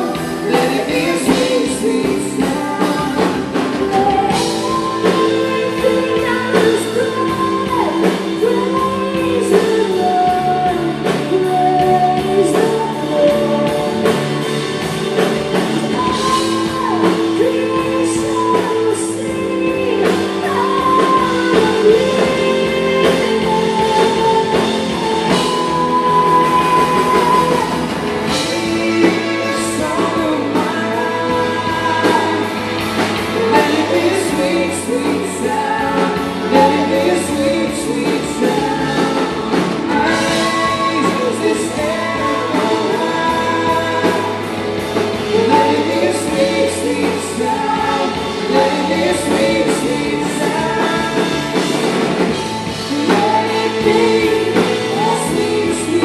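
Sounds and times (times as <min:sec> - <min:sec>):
guitar: 0:00.0 - 0:56.0
steady drum beat: 0:00.0 - 0:56.0
woman singing: 0:00.0 - 0:56.0
worship band playing: 0:00.0 - 0:56.0.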